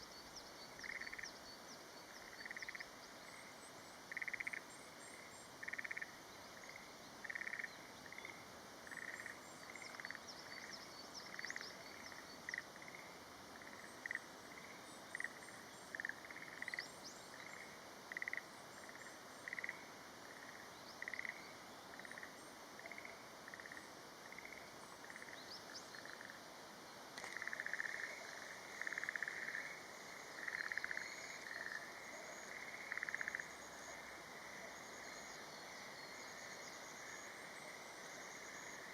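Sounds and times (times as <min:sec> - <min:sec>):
frogs croaking: 0:00.0 - 0:26.6, 0:27.2 - 0:38.9
steady hiss: 0:00.0 - 0:38.9.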